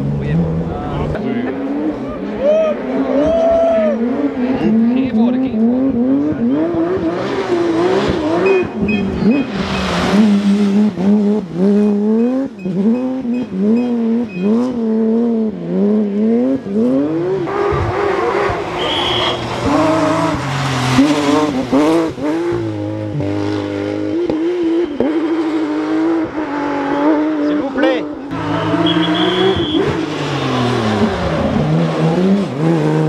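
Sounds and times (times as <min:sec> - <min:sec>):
rally car engine at racing revs: 0:00.0 - 0:33.0.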